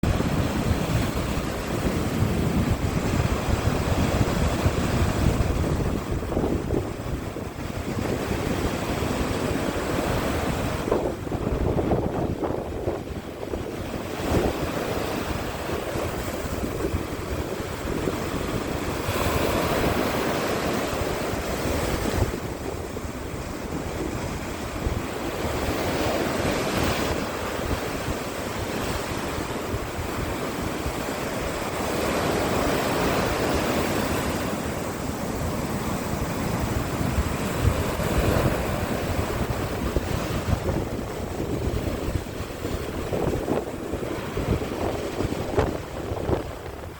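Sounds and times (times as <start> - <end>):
waves breaking: 0.0 - 46.9
wind buffeting microphone: 0.0 - 46.9.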